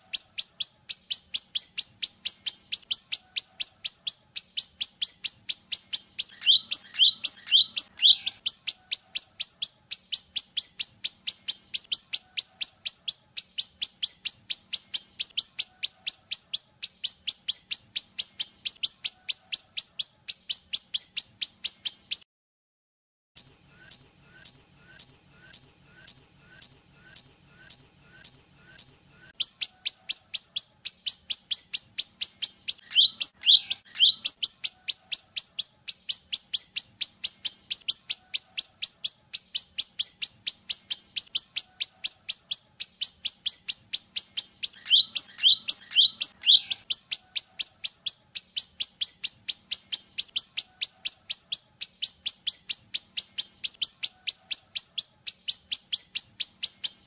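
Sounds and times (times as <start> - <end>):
high thin whistled bird song: 0.0 - 22.3, 23.4 - 57.0.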